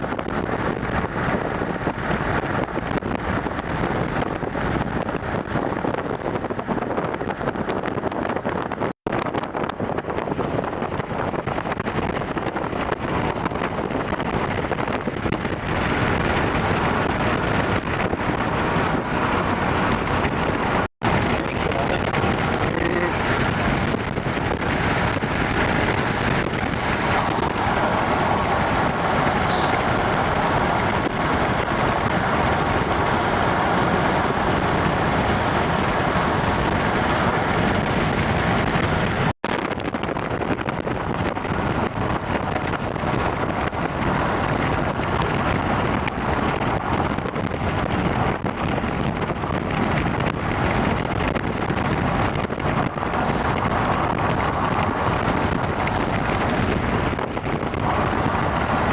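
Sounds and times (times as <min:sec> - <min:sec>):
wind on microphone: 0:00.0 - 0:58.9.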